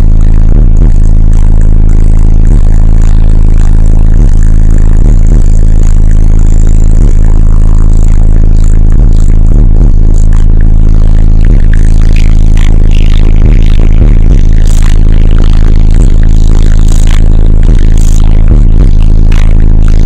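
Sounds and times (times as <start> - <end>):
distorted bass-heavy car music: 0.0 - 20.0.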